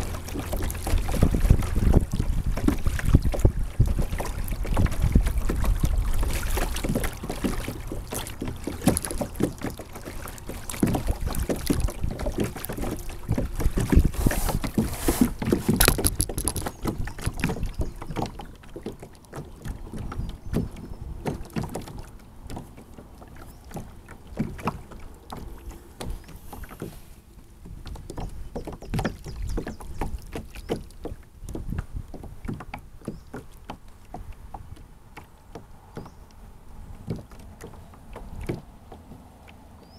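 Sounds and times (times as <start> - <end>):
water splashing against kayak hull: 0.0 - 39.9.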